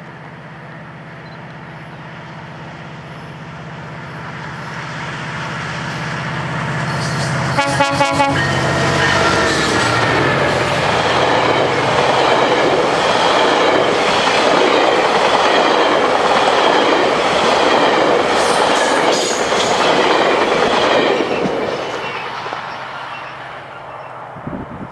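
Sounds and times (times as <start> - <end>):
train wheels rushing on rail: 0.0 - 24.9.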